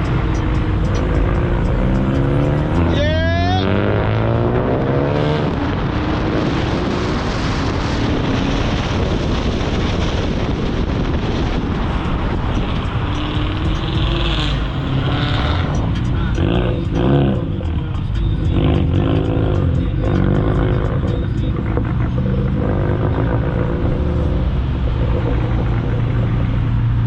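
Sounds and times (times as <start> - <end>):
car engines running loud: 0.0 - 27.0.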